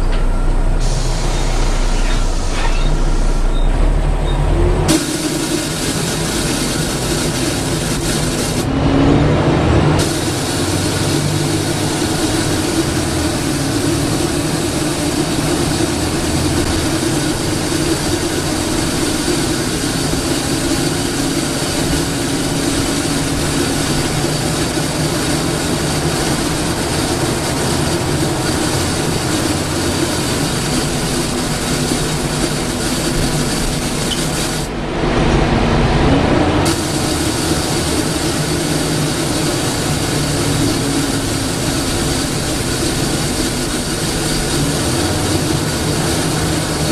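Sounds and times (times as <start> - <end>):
bus diesel engine hum: 0.0 - 46.9.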